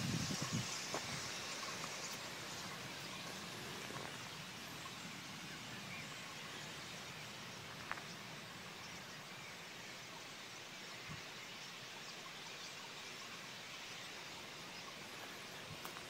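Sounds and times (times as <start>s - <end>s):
huge flock of birds hissing: 0.0s - 16.0s.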